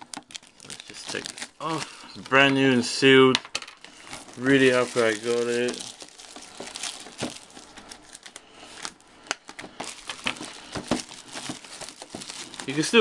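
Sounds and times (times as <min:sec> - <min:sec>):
plastic shrink-wrap crinkling: 0:00.0 - 0:02.5, 0:03.8 - 0:13.0.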